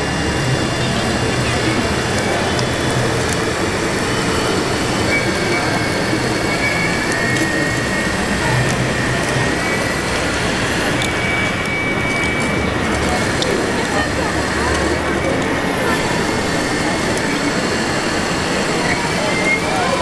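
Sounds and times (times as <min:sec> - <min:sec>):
faint high whine: 0:00.0 - 0:20.0
toy bulldozer running: 0:00.0 - 0:20.0.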